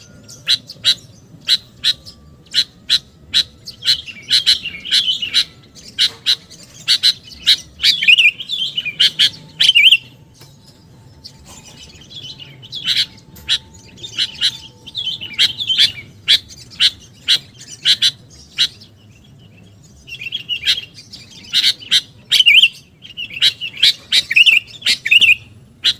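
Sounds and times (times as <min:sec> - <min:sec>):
bird chirping sharply: 0:00.0 - 0:25.9.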